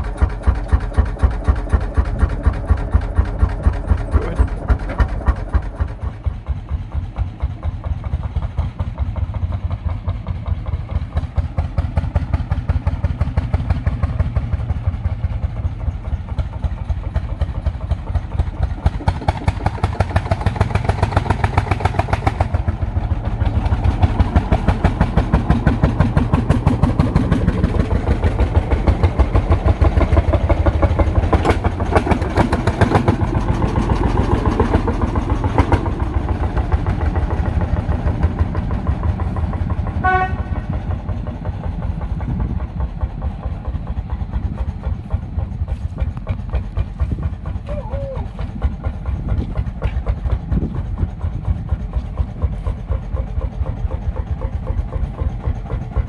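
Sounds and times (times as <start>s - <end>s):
tractor engines driving past: 0.0s - 56.0s.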